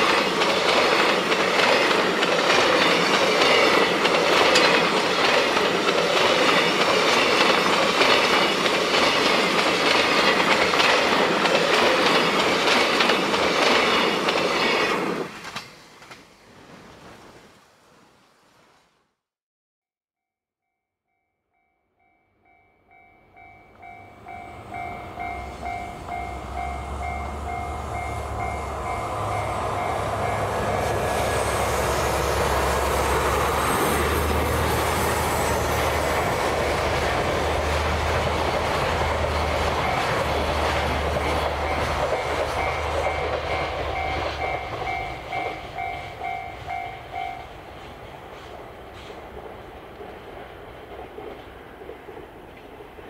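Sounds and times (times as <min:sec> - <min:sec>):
freight train rumbling past: 0:00.0 - 0:17.5, 0:22.4 - 0:53.0.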